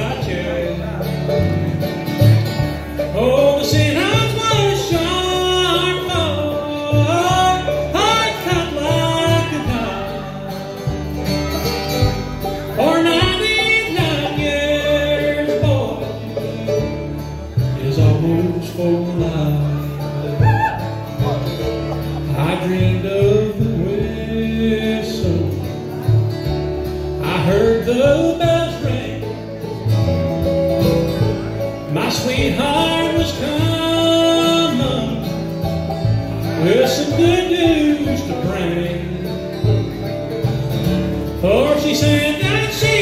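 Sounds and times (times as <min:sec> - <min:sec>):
man singing: 0:00.0 - 0:21.6, 0:22.2 - 0:26.2, 0:27.1 - 0:29.8, 0:31.7 - 0:40.2, 0:41.2 - 0:43.0
bluegrass band playing: 0:00.0 - 0:43.0.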